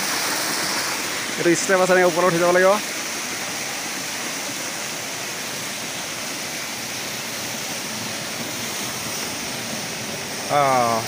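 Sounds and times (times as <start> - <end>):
water splashing over concrete steps: 0.0 - 11.0.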